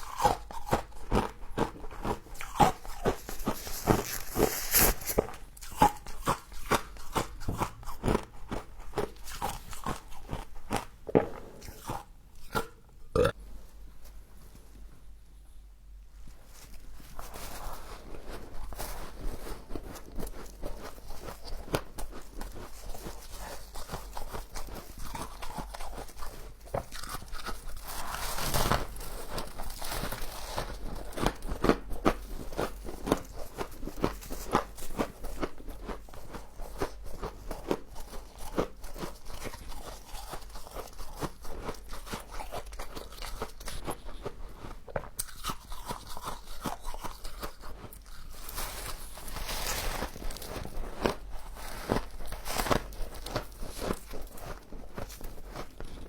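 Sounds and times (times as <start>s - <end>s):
frost crunching being chewed: 0.0s - 13.4s, 16.4s - 56.0s.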